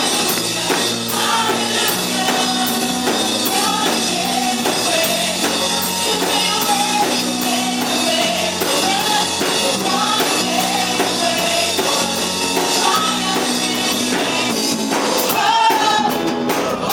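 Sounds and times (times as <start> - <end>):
person singing: 0.0 - 16.9
worship band playing: 0.0 - 16.9.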